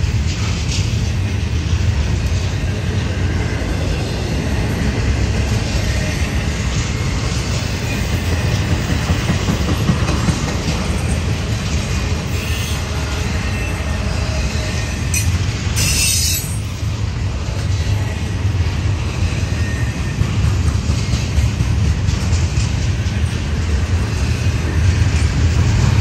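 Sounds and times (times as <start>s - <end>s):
freight train wheels rumbling on rails: 0.0s - 26.0s.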